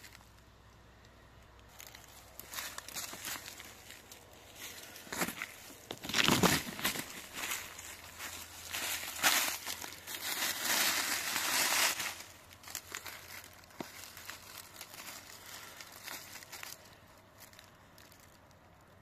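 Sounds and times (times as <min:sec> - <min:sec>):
dry leaves rustling and crackling: 0:00.0 - 0:00.4, 0:01.4 - 0:19.0.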